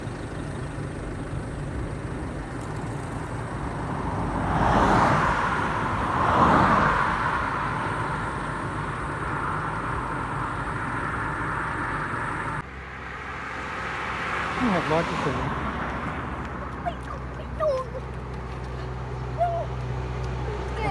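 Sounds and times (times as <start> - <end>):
rumble of engines and tyres: 0.0 - 20.9
vehicles driving past: 0.0 - 20.9.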